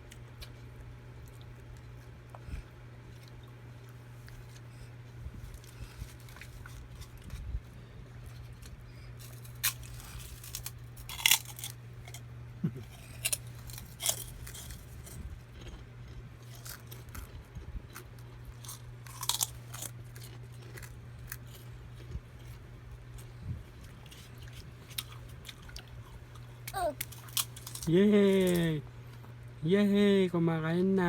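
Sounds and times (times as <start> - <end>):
crackers being crunched and chewed: 0.0 - 29.4
steady low hum: 0.0 - 31.0.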